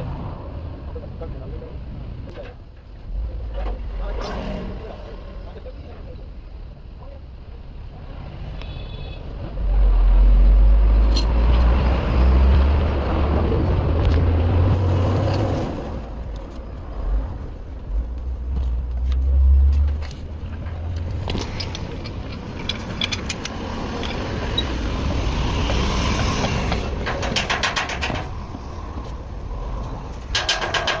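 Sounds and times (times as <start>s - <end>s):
vehicle engine rumble: 0.0s - 31.0s.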